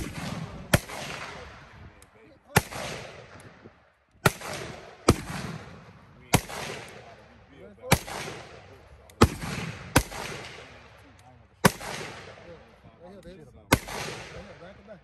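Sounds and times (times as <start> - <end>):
rifle shots with echo: 0.0 - 15.0.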